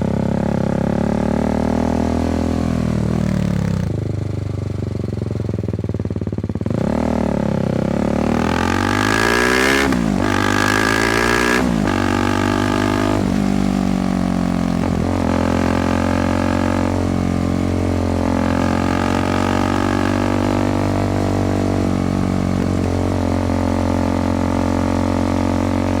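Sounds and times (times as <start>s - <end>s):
motorcycle engine shifting gears: 0.0s - 26.0s.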